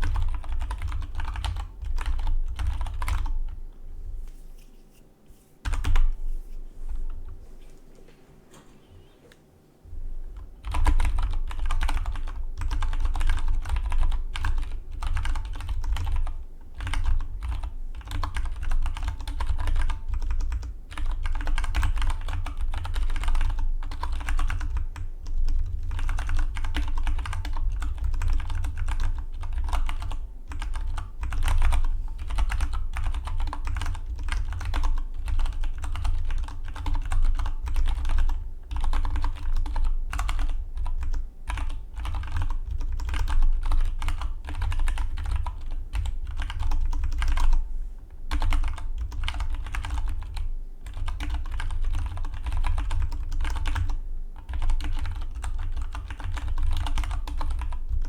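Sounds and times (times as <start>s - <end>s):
fast typing on mechanical keyboard: 0.0s - 3.4s, 10.3s - 47.6s, 48.3s - 58.0s.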